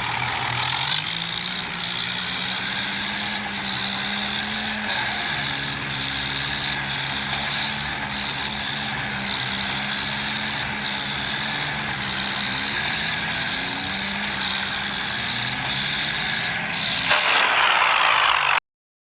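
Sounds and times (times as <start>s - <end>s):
tractor diesel engine running: 0.0s - 18.6s
rushing noise: 1.0s - 18.6s.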